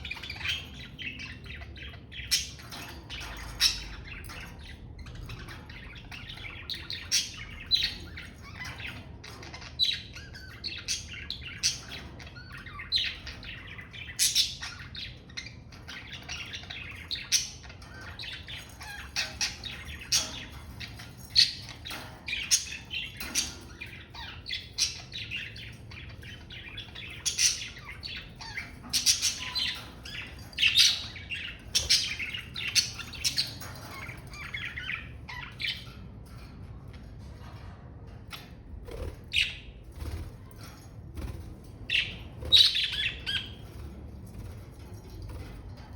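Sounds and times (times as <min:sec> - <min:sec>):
budgerigars chirping: 0:00.0 - 0:35.9, 0:38.9 - 0:40.3, 0:41.9 - 0:43.9.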